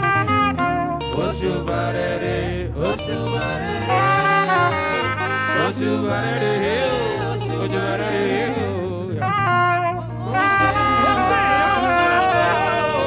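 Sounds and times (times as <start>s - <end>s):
band bass line: 0.0s - 13.0s
saxophone melody: 0.0s - 13.0s.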